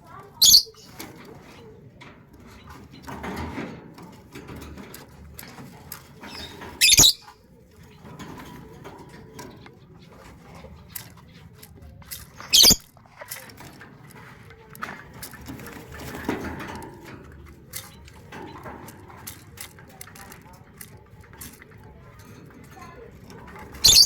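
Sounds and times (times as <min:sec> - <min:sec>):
bird scratching and tapping: 0:00.0 - 0:24.0.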